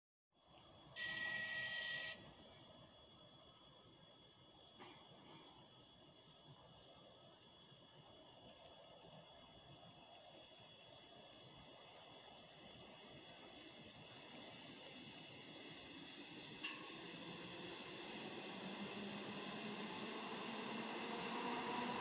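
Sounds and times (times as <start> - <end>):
crickets chirping: 0.4 - 22.0.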